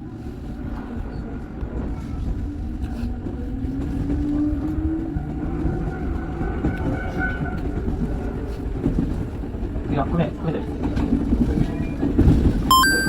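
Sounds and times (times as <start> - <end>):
electric train rumbling: 0.0 - 12.7.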